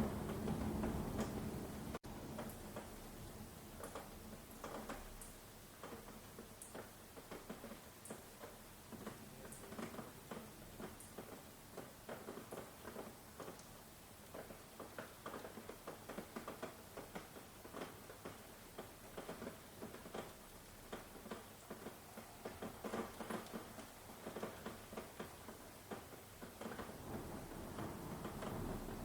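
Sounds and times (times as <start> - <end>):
rain hiss: 0.0 - 29.0.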